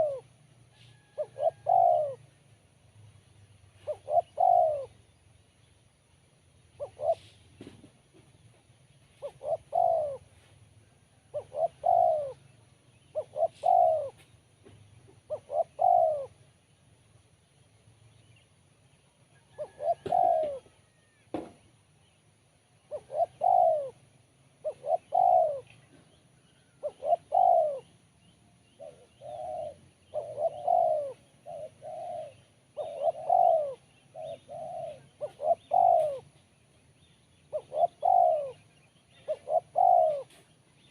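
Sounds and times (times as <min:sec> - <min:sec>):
dove cooing: 0:00.0 - 0:02.6, 0:03.6 - 0:05.2, 0:06.6 - 0:08.3, 0:09.1 - 0:10.5, 0:11.1 - 0:16.5, 0:19.3 - 0:22.2, 0:22.8 - 0:36.5, 0:37.3 - 0:40.9.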